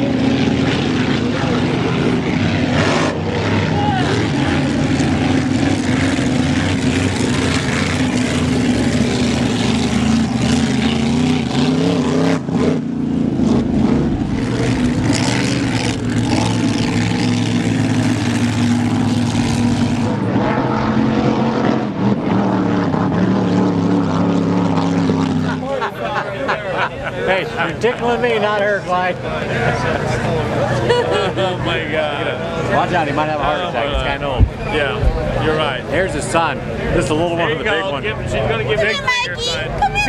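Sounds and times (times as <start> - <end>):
engine droning steadily: 0.0 - 40.0.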